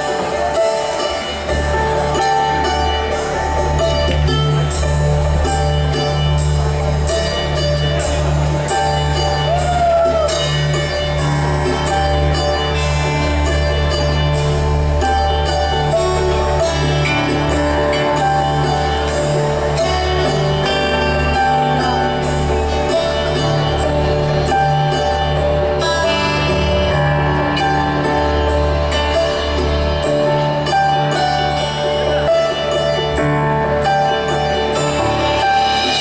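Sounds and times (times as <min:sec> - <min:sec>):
bass line: 0:00.0 - 0:36.0
keyboards: 0:00.0 - 0:36.0.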